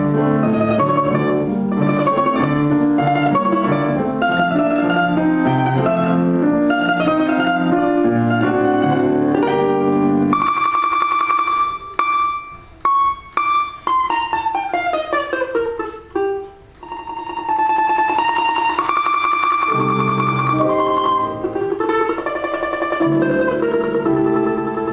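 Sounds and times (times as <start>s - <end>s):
plucked string instrument playing: 0.0s - 24.9s.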